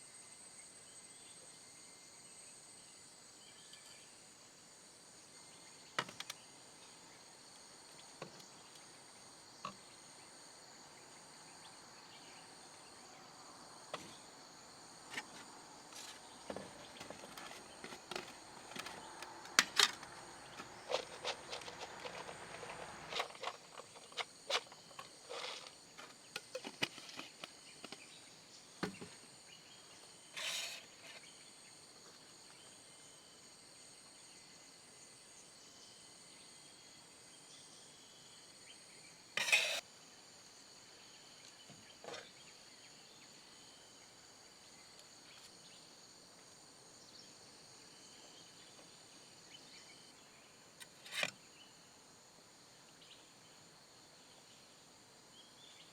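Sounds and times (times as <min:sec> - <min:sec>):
insects chirring: 0:00.1 - 0:55.9.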